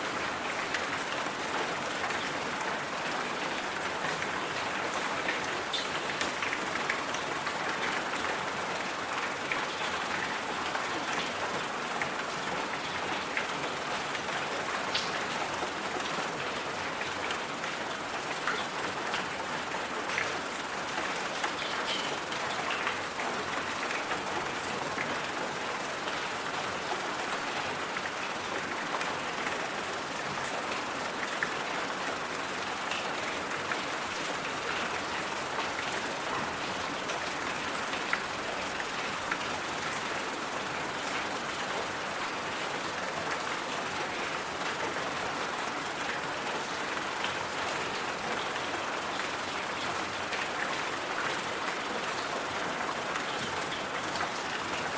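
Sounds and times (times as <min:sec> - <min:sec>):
white-noise hiss: 0:00.0 - 0:54.9.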